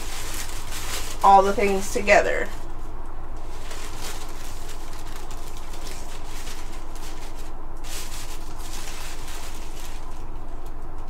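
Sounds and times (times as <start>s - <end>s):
tissue paper rustling: 0.0s - 2.8s, 3.4s - 10.8s
steady low hum: 0.0s - 11.0s.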